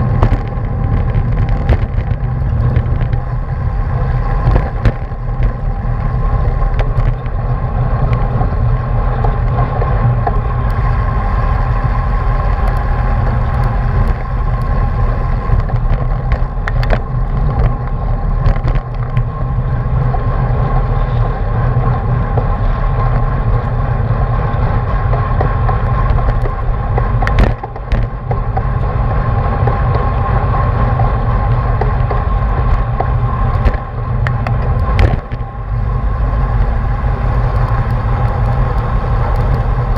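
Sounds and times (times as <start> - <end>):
road rumble: 0.0 - 39.9
steady hum: 0.0 - 39.9
wind buffeting camera: 0.0 - 39.9.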